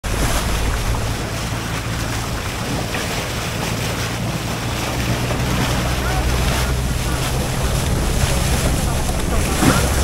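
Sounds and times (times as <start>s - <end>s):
boat engine humming: 0.0s - 10.0s
rushing water: 0.0s - 10.0s
wind buffeting microphone: 0.0s - 10.0s.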